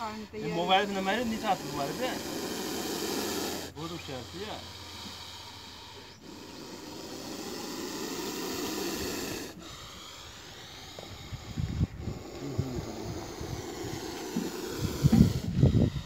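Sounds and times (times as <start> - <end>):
snake hissing: 0.0 - 16.0.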